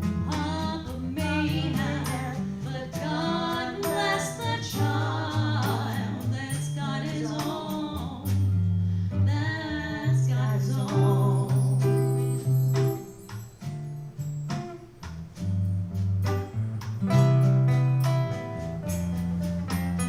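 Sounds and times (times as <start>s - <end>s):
low bass notes: 0.0s - 13.0s, 14.0s - 20.0s
guitar: 0.0s - 20.0s.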